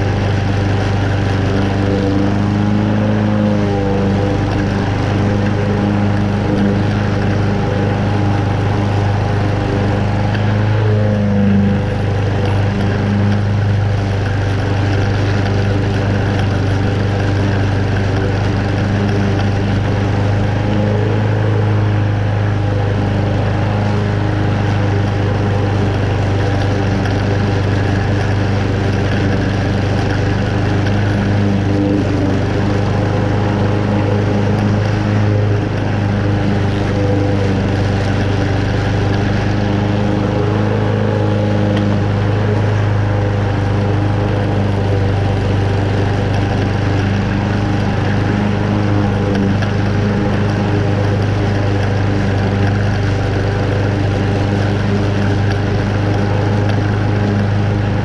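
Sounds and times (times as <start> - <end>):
lawn mower running: 0.0 - 58.0.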